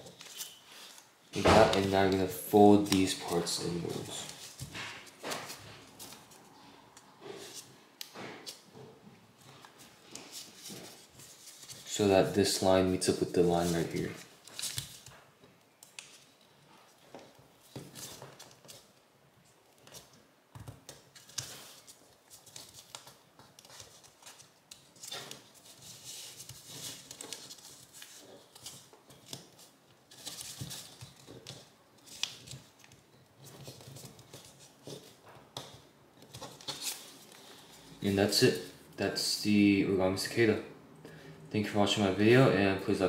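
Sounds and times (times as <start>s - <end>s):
paper folding rustles: 0.0s - 8.8s, 9.4s - 39.0s.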